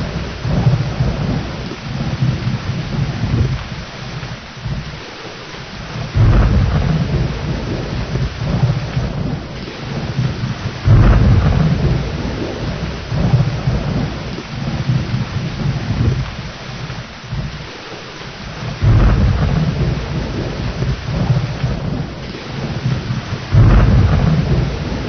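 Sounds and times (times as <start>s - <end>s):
rolling thunder: 0.0s - 5.1s, 5.8s - 17.7s, 18.5s - 25.0s
steady rain: 0.0s - 25.0s.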